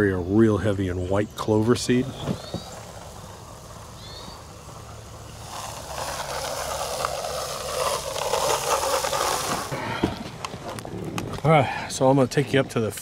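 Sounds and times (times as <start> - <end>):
seed hissing and pattering: 0.3 - 12.1.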